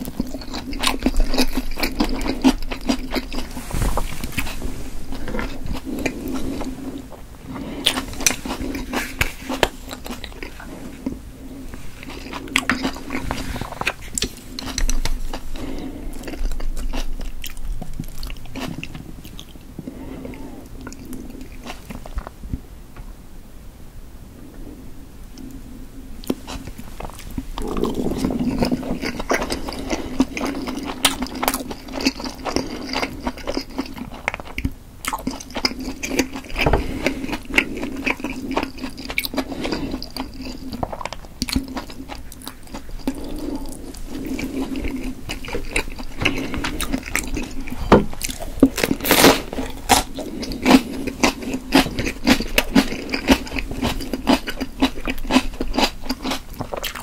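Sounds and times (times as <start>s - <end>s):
close chewing mouth sounds: 0.0s - 22.4s, 26.2s - 57.0s
low steady hum: 0.0s - 57.0s.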